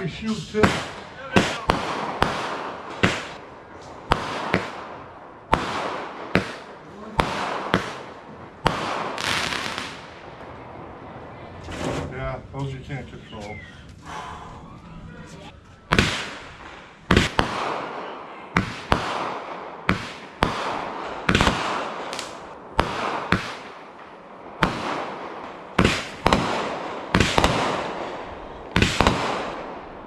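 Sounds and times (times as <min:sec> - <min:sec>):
firework bangs: 0:00.0 - 0:12.5, 0:15.8 - 0:30.0.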